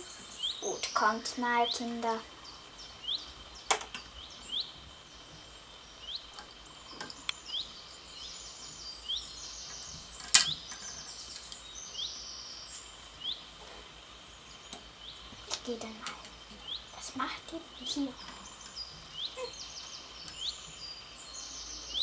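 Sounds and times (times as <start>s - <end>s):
higher chirps: 0.0s - 22.0s.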